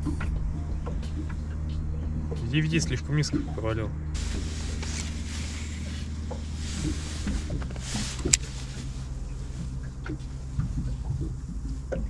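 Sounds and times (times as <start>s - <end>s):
electric boat motor humming: 0.0s - 12.0s.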